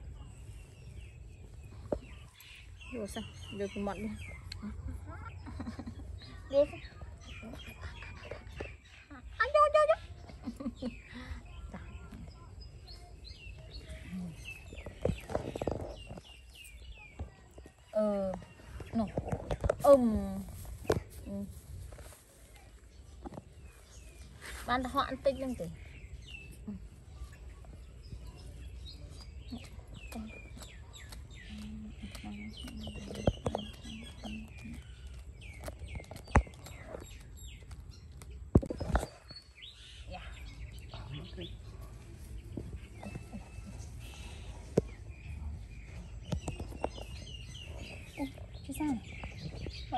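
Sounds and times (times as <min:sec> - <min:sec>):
bird chirping: 0:00.0 - 0:49.9.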